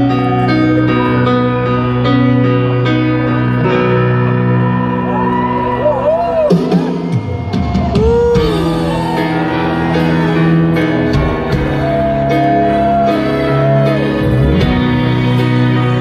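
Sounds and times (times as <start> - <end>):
live rock band playing ballad: 0.0 - 16.0.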